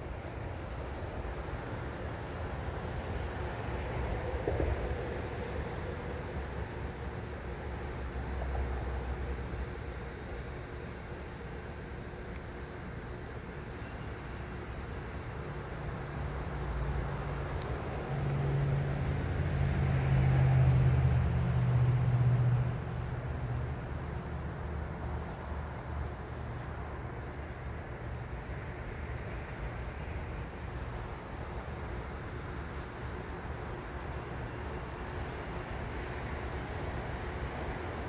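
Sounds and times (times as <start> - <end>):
low engine hum: 0.0 - 38.0.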